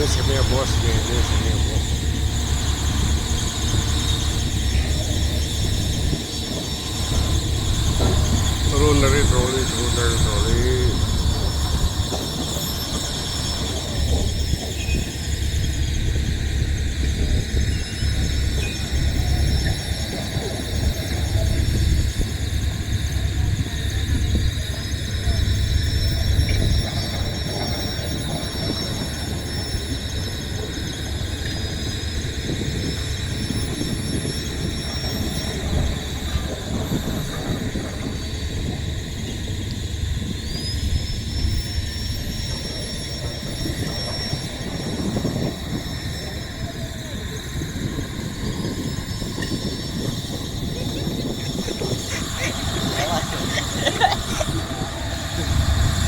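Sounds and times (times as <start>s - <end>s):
engine rumbling: 0.0s - 56.0s
high-pitched whine: 0.0s - 56.0s
wind buffeting microphone: 0.0s - 56.0s.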